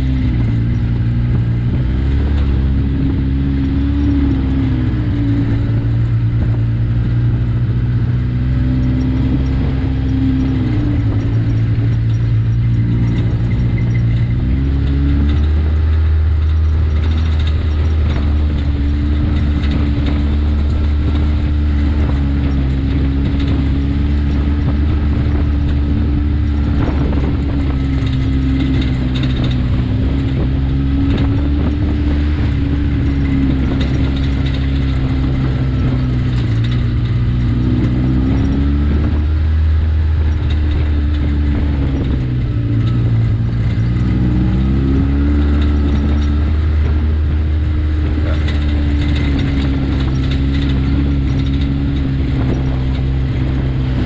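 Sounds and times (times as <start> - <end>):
utility vehicle engine running: 0.0 - 54.0.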